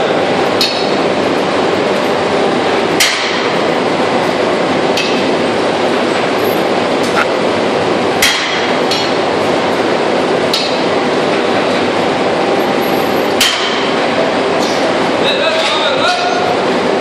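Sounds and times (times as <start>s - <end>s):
factory machinery din: 0.0s - 17.0s.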